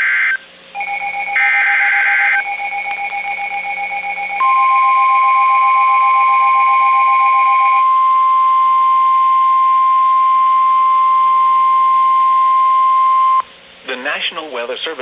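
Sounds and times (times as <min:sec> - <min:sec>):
steady single-pitch alarm tone: 0:00.0 - 0:13.4.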